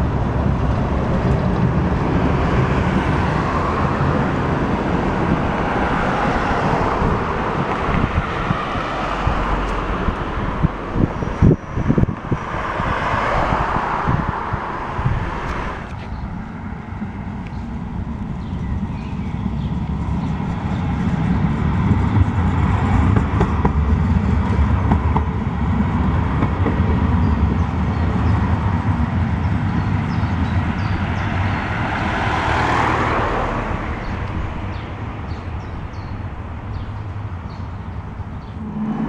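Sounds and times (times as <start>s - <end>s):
tram passing on tracks: 0.0s - 39.0s.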